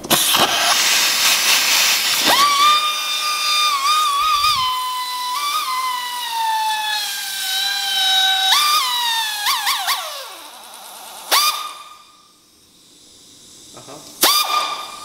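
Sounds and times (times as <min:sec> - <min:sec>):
pneumatic tool whining: 0:00.0 - 0:12.2, 0:14.2 - 0:15.0
air hissing: 0:00.0 - 0:15.0.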